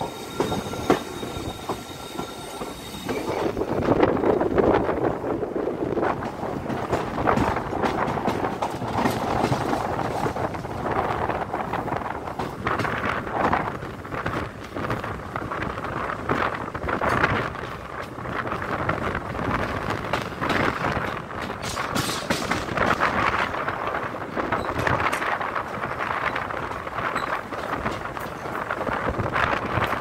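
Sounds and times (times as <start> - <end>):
train wheels clattering on rails: 0.0 - 5.1, 5.8 - 30.0
wind buffeting the microphone: 2.7 - 30.0.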